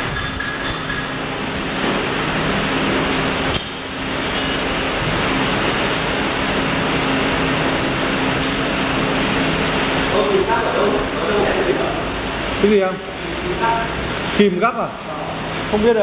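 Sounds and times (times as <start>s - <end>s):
arc welding crackling hiss: 0.0s - 16.0s.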